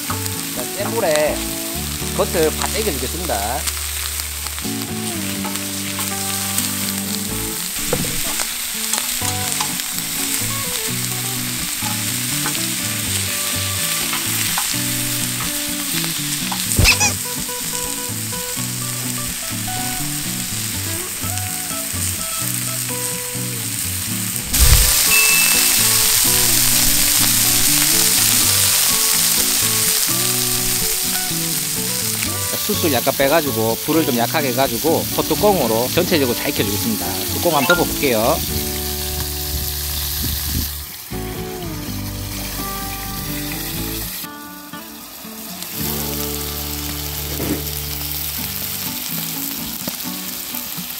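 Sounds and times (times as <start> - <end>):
meat sizzling on griddle: 0.0 - 50.9.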